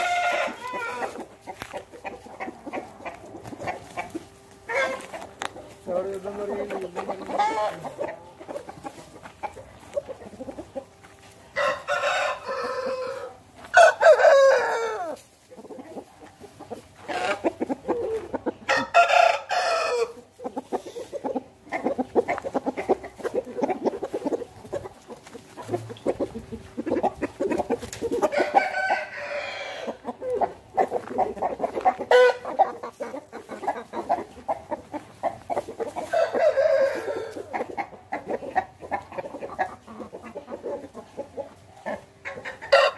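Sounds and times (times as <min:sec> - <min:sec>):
chickens clucking: 0:00.0 - 0:42.9
roosters crowing: 0:00.0 - 0:42.9.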